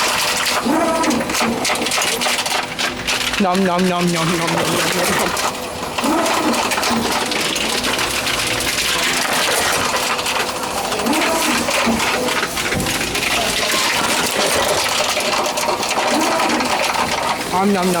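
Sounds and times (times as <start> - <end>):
plastic bottles clattering: 0.0 - 18.0
reverse vending machine running: 0.0 - 18.0.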